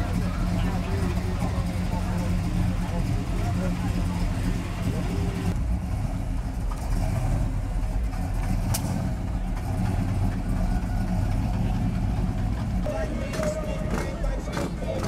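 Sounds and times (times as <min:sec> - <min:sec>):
car engine exhaust rumble: 0:00.0 - 0:15.0.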